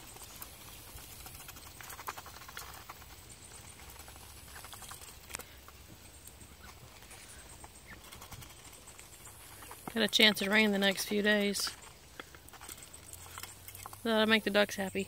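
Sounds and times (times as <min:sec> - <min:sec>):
duck bills clicking in feed: 0:00.0 - 0:14.9.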